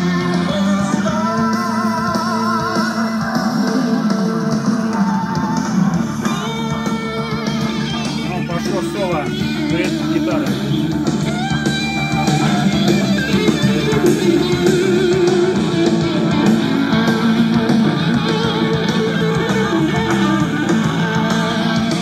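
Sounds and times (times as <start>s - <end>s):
guitar rock music from speakers: 0.0s - 22.0s.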